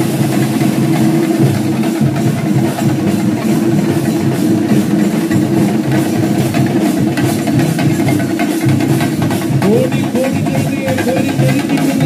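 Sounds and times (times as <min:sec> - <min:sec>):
percussion ensemble drumming: 0:00.0 - 0:12.0.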